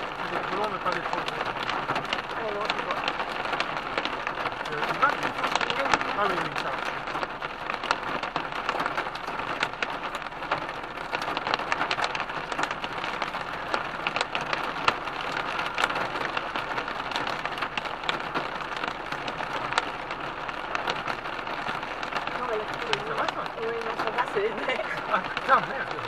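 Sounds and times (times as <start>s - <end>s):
heavy rain on a car: 0.0s - 26.0s.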